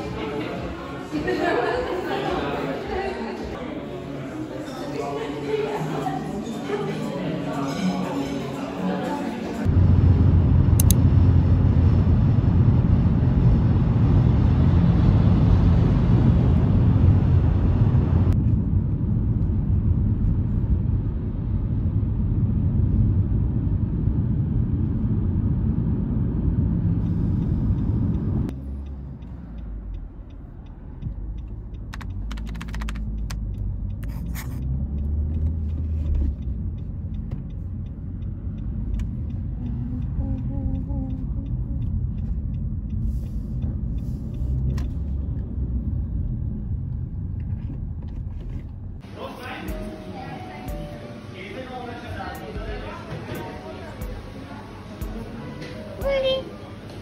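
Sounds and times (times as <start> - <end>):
vehicle rumble: 9.6 - 57.0.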